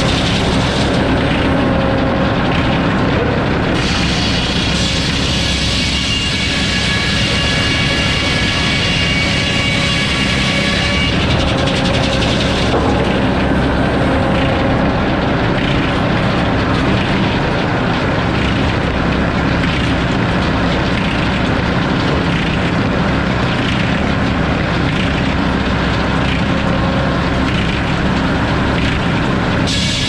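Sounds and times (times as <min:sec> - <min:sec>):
circular saw cutting log: 0:00.0 - 0:30.0.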